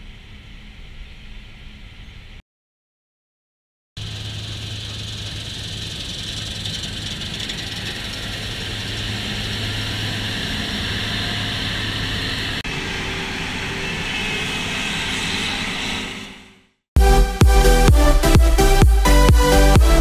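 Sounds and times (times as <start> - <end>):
combine engine drone: 0.0 - 2.4, 4.0 - 20.0.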